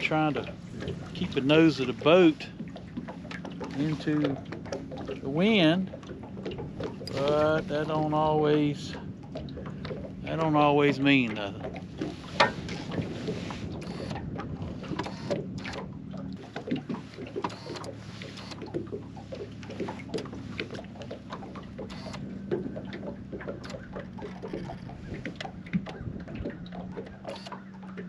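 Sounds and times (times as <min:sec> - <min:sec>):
waves lapping against boat hull: 0:00.0 - 0:28.0.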